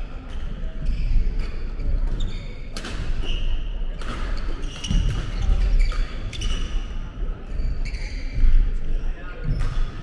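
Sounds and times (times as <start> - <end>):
sneakers squeaking: 0.3 - 10.0.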